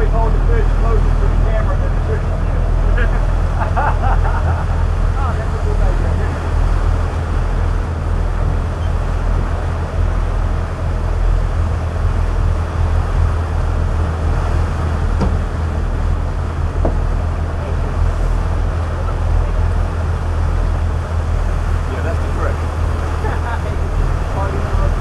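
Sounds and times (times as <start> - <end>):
boat engines droning: 0.0 - 25.0
churning wake and wind: 0.0 - 25.0.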